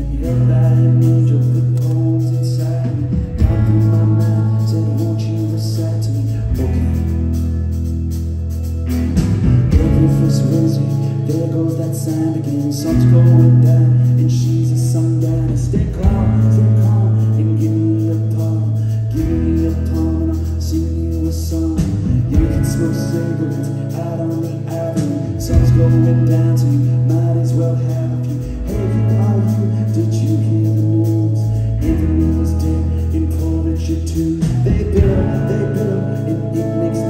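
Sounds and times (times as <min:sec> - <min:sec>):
lead vocals: 0:00.0 - 0:07.8, 0:09.1 - 0:37.0
held bass notes: 0:00.0 - 0:37.0
live rock band playing: 0:00.0 - 0:37.0.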